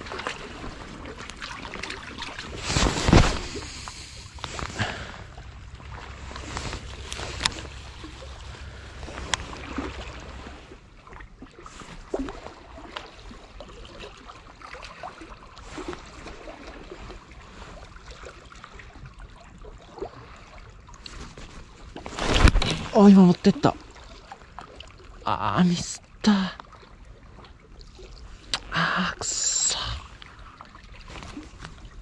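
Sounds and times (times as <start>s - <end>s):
water lapping at shore: 0.0s - 32.0s.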